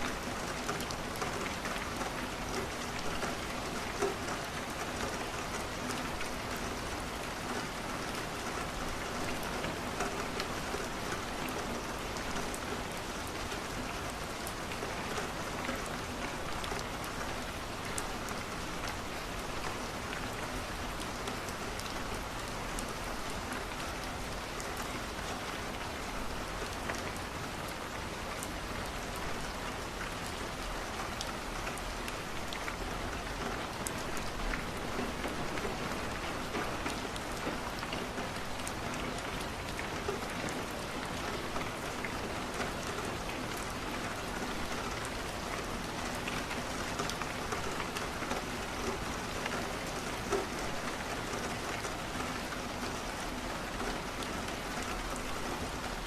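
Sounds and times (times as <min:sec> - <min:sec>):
rain against a window: 0:00.0 - 0:56.0.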